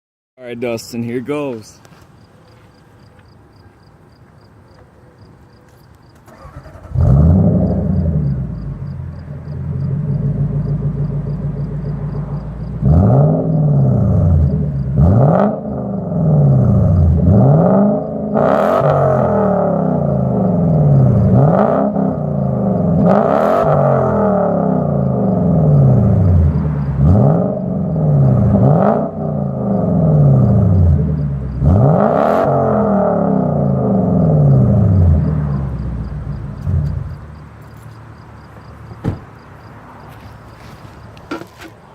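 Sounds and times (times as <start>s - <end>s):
car engine idling and revving: 5.6s - 41.9s.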